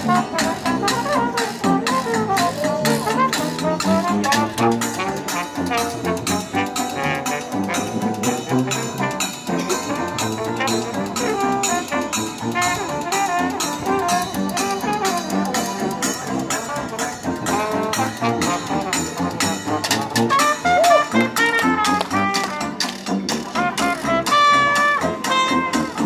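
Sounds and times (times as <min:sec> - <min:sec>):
dixieland jazz band playing: 0:00.0 - 0:26.0.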